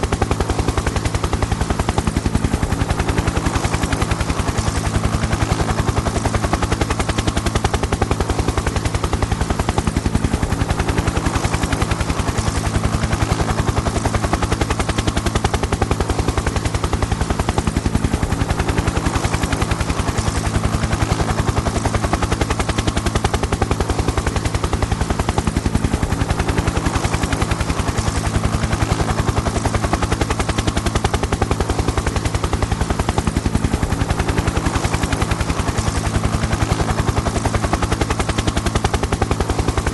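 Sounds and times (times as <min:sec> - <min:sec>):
helicopter engine hum: 0:00.0 - 0:39.9
helicopter rotor chop: 0:00.0 - 0:39.9.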